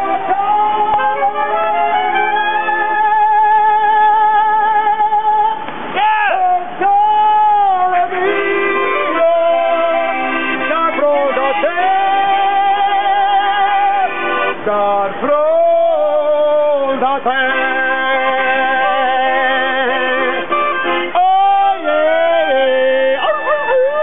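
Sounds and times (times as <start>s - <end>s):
accordion playing: 0.0s - 5.0s, 7.9s - 24.0s
person singing long notes: 0.0s - 24.0s.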